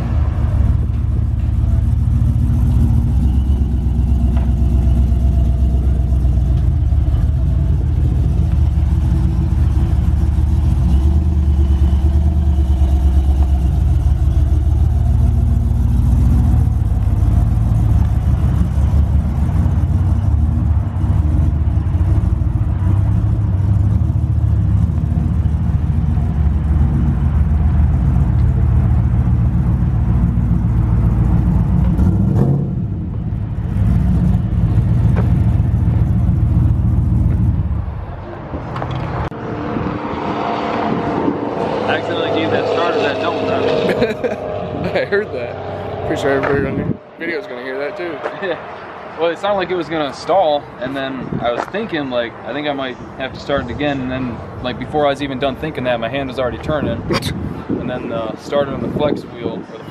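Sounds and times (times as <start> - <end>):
pickup truck engine rumbling: 0.0 - 59.9.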